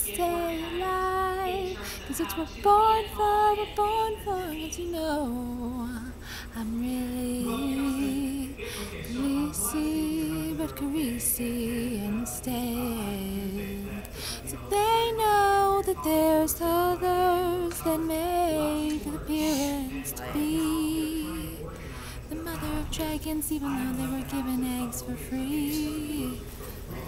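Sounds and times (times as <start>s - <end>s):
woman singing a cappella: 0.0s - 26.6s.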